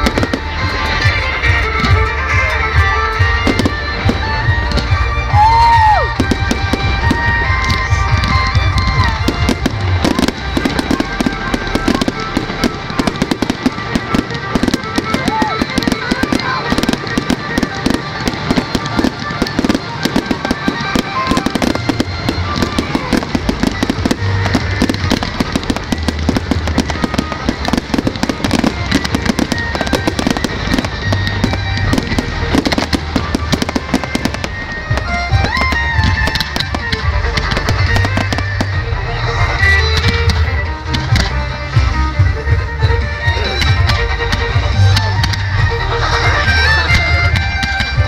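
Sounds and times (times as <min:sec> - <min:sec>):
fireworks crackling and popping: 0:00.0 - 0:48.0
music playing: 0:00.0 - 0:48.0.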